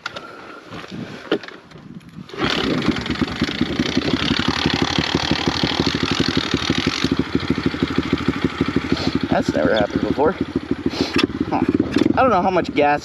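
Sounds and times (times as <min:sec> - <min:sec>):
motorbike engine idling: 0:02.4 - 0:13.0.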